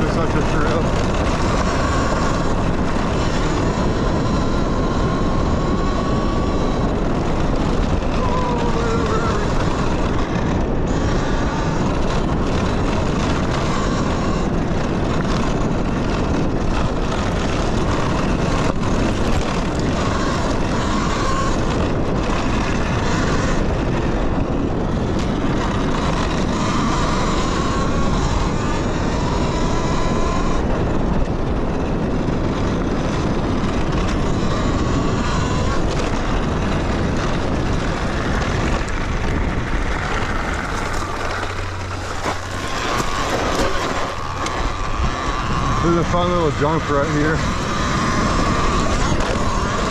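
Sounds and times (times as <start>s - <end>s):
bike knocking on rough trail: 0.0s - 49.9s
electric motor whine: 0.0s - 49.9s
wind noise on microphone: 0.0s - 49.9s.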